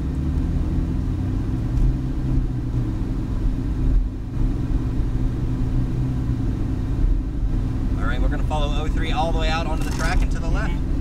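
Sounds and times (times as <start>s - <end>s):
car engine low hum: 0.0s - 11.0s.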